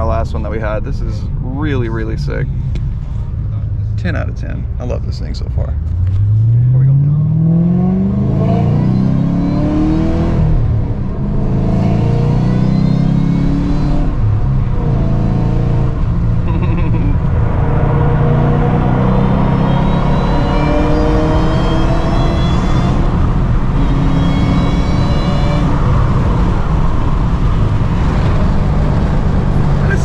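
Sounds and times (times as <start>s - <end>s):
car engine from inside cabin: 5.8s - 30.0s.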